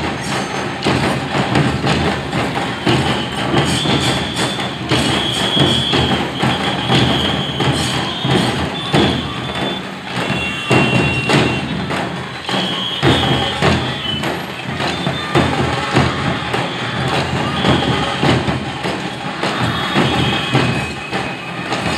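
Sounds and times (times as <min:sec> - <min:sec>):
procession drums beating: 0:00.0 - 0:21.9.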